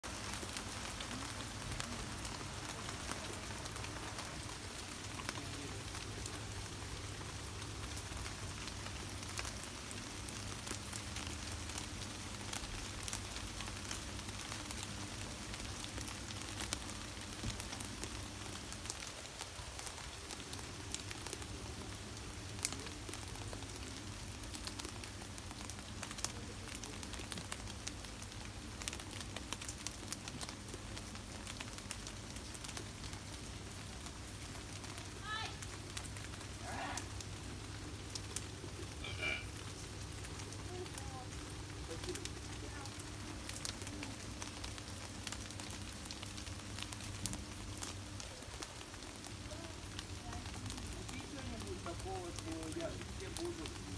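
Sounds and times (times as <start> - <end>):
rain falling on leaves: 0.0 - 53.9.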